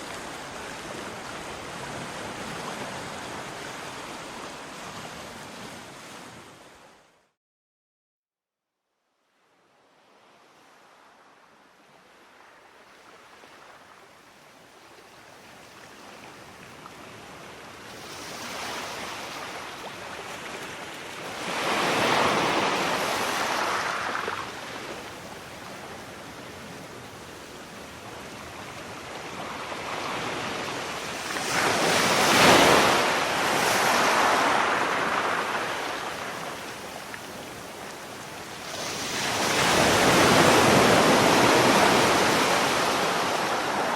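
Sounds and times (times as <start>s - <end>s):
sea waves breaking on shore: 0.0s - 7.0s, 14.7s - 43.9s.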